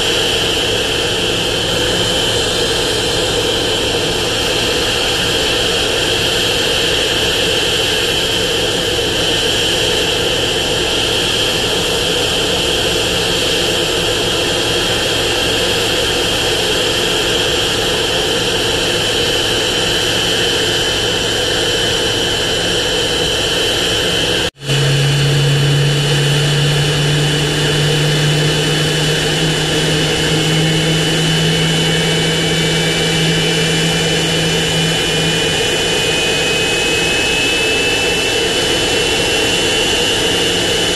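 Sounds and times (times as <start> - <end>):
jet engines running: 0.0 - 40.9
low hum: 0.0 - 40.9
whine rising in pitch: 0.0 - 40.9.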